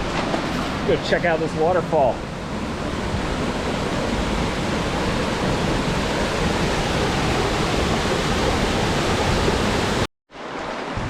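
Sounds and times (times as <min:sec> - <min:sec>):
waterfall rushing: 0:00.8 - 0:11.0.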